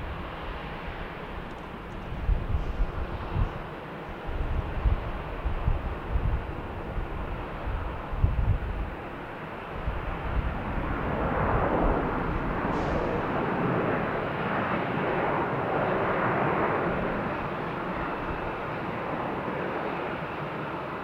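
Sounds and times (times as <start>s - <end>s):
airplane engine roar: 0.0s - 21.0s.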